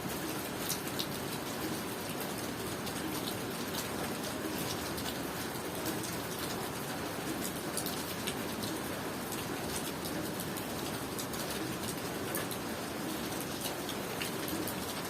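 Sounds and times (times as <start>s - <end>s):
rain falling hiss: 0.0s - 15.0s.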